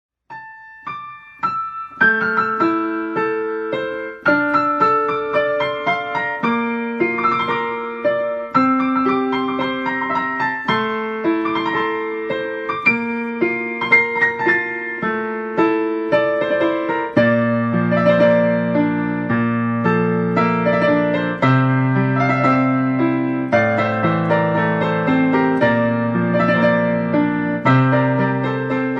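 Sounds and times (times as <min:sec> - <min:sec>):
solo piano music: 0:00.3 - 0:28.9.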